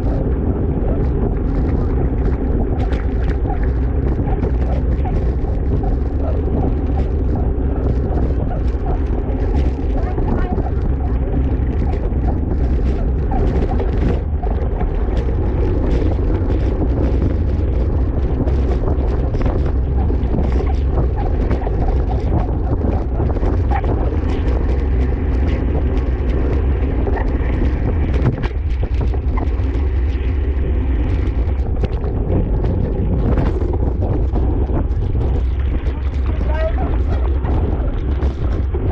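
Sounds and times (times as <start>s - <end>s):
small ticks and clicks: 0.0s - 38.9s
wind rushing over microphone: 0.0s - 38.9s.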